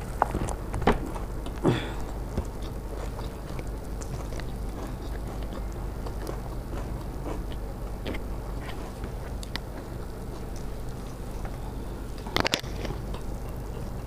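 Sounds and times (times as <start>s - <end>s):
person chewing crunchy food: 0.0s - 14.0s
steady low hum: 0.0s - 14.0s
wet mouth sounds: 0.0s - 14.0s.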